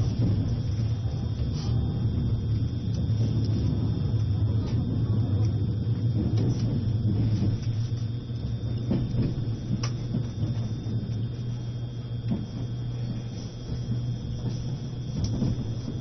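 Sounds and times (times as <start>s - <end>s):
constant thin high tone: 0.0s - 16.0s
electric train low rumble: 0.0s - 16.0s.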